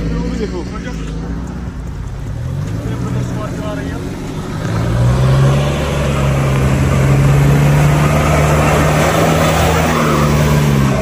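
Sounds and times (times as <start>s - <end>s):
water splashing around tyres: 0.0s - 11.0s.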